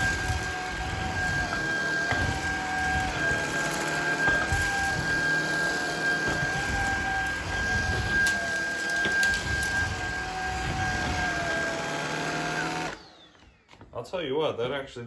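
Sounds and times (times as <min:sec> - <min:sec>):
stick vacuum running: 0:00.0 - 0:14.0.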